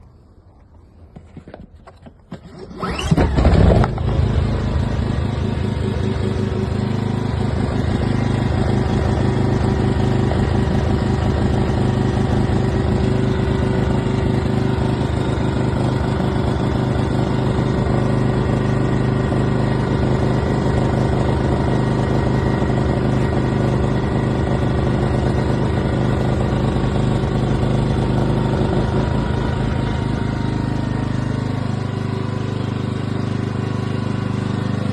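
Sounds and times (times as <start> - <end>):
petrol generator engine running: 1.9 - 34.9.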